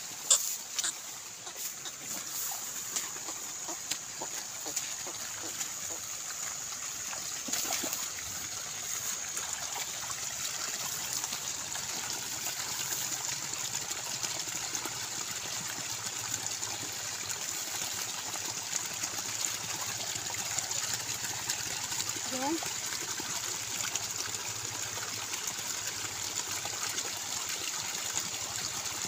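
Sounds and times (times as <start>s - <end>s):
water trickling into pool: 0.0s - 29.0s.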